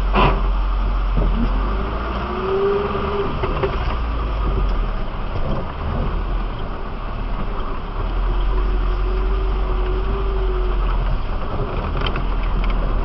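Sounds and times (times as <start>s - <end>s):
vehicle engine running slowly: 0.0s - 13.0s.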